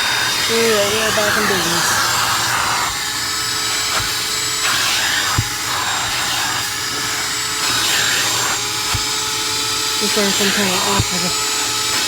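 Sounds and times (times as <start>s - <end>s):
wet dry vacuum running: 0.0s - 12.0s.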